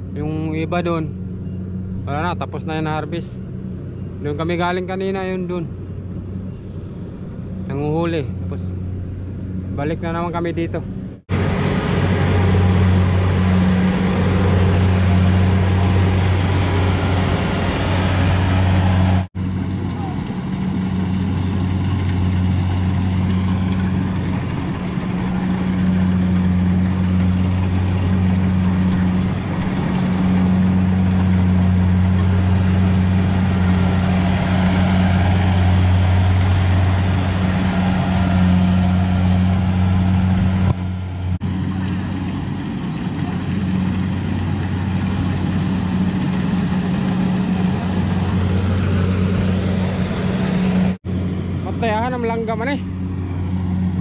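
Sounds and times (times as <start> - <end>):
combine harvester engine droning: 0.0 - 54.0.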